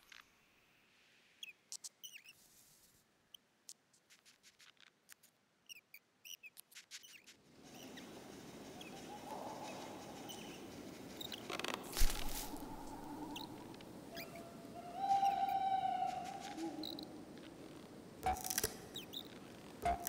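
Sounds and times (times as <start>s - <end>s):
soft steady hiss: 0.0s - 5.6s, 7.4s - 20.0s
tiny cartoon squeaks and ticks: 1.4s - 2.4s, 3.3s - 14.4s, 16.1s - 20.0s.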